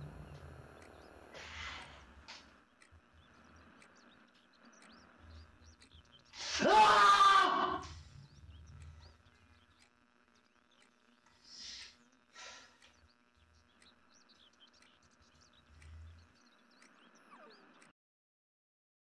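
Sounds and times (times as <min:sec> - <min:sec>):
faint birds chirping: 0:00.0 - 0:17.9.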